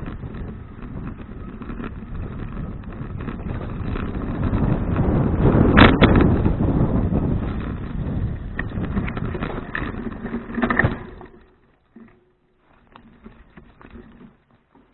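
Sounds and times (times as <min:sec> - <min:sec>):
wind rumbling on microphone: 0:00.0 - 0:14.9.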